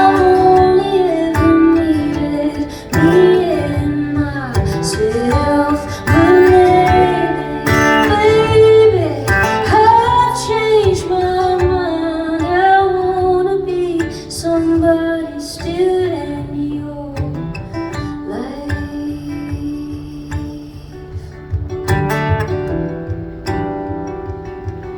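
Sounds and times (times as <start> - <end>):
woman singing: 0.0 - 22.0
guitar accompaniment: 0.0 - 24.9.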